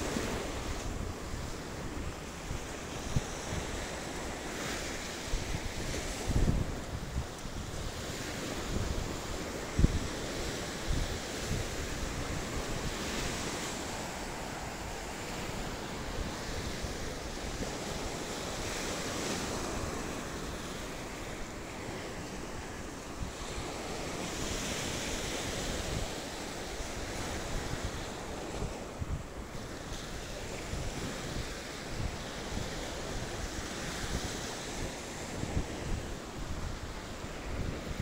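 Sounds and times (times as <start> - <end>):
sea waves washing up beach: 0.0 - 38.0
wind rumbling on microphone: 0.0 - 38.0.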